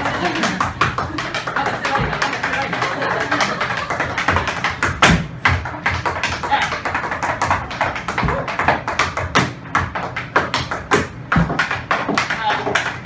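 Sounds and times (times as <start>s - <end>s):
heavy foot stamps: 0.0s - 13.0s
tap shoes on hard floor: 0.1s - 13.0s.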